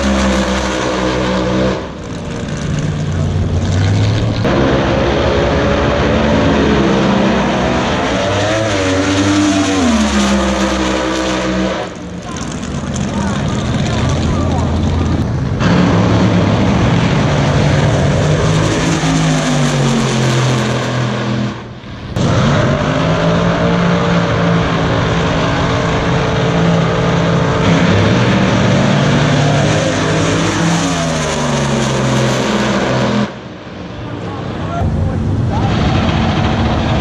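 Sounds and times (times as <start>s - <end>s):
loud drag racing car engines: 0.0s - 37.0s.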